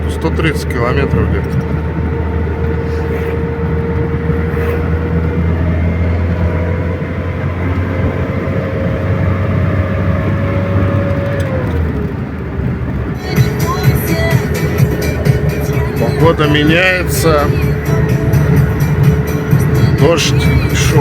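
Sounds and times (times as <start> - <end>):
thin engine whine: 0.0 - 21.0
truck engine droning: 0.0 - 21.0.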